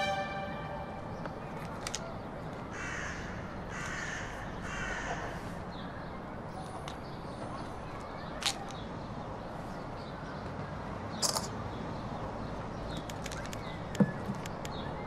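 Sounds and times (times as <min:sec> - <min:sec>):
steady background ambience: 0:00.0 - 0:15.0.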